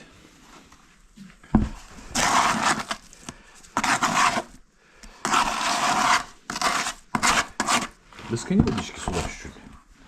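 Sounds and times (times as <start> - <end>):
tool scraping masonry: 1.6 - 9.7.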